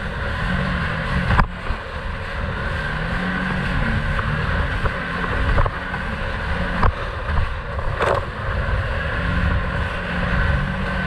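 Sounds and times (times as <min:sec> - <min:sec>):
water rushing along hull: 0:00.0 - 0:11.0
watercraft engine running: 0:00.0 - 0:11.0.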